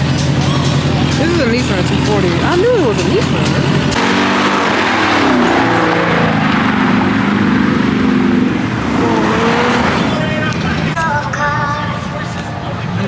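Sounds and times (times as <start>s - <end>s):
car engine revving: 0.0s - 12.5s.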